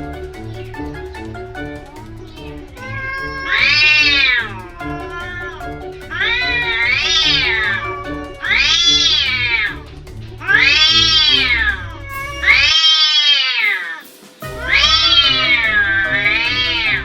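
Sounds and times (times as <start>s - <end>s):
cat yowling: 1.9s - 9.8s, 10.4s - 14.0s, 14.6s - 17.0s.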